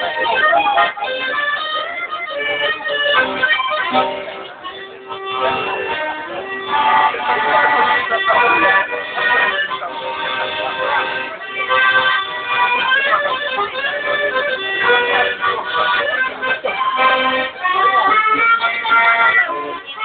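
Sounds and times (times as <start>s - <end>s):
accordion playing a tune: 0.0s - 20.0s.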